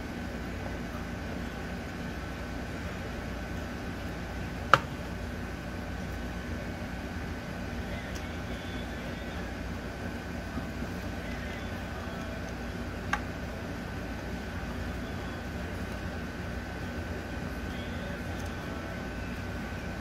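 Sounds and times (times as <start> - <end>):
low background hum: 0.0 - 20.0
thin steady whine: 0.0 - 20.0.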